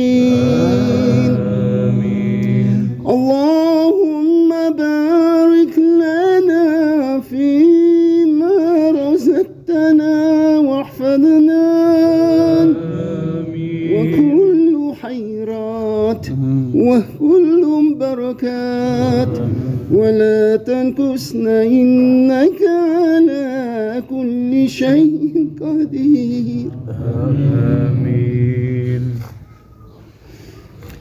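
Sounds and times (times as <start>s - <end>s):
person singing slow chant: 0.0s - 29.7s.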